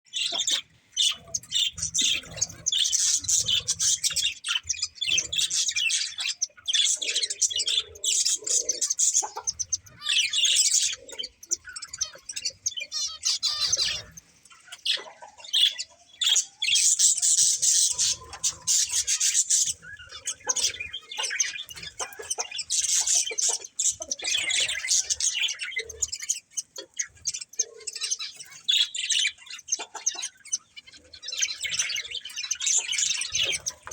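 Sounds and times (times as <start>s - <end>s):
budgerigars chirping and warbling: 0.1s - 33.9s.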